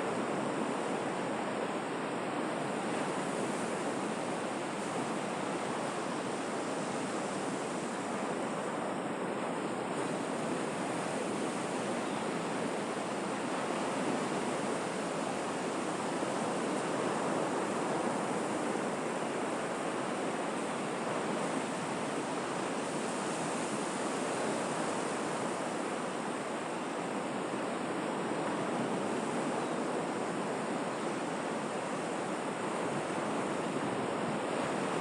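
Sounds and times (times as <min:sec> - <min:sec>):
sea surf: 0:00.0 - 0:35.0.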